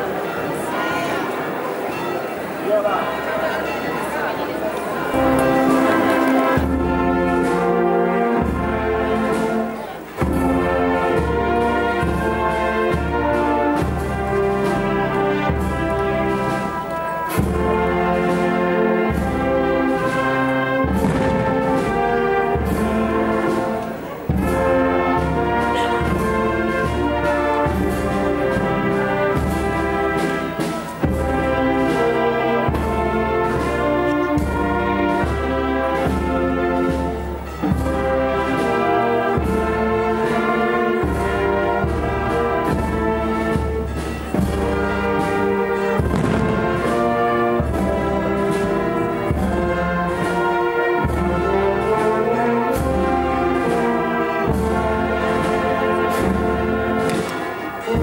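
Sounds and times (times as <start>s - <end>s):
marching brass band playing: 0.0s - 58.0s.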